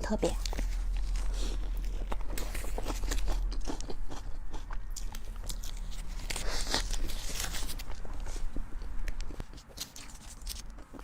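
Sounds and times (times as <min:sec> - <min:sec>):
person chewing crisp food: 0:00.3 - 0:11.0.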